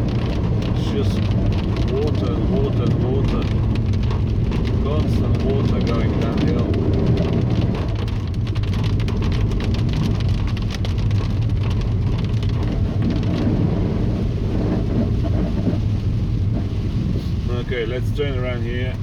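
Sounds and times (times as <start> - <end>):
engine and tyres on wet road: 0.0 - 19.0
rain drumming on a car: 0.0 - 19.0.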